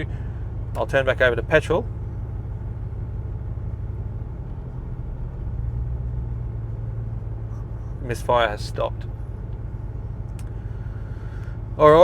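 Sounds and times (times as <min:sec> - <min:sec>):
engine idling with low rumble: 0:00.0 - 0:12.0.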